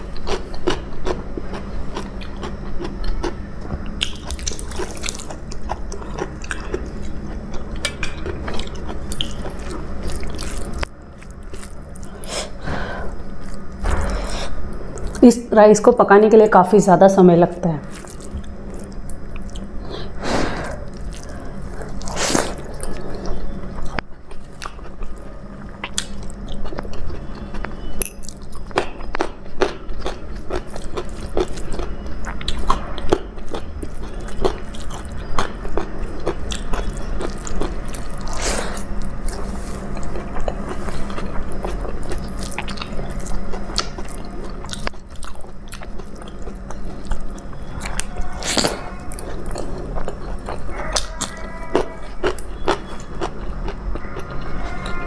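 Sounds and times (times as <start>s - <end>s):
food crunching: 0.0s - 12.6s, 17.8s - 55.0s
person chewing food: 0.0s - 15.2s, 17.9s - 55.0s.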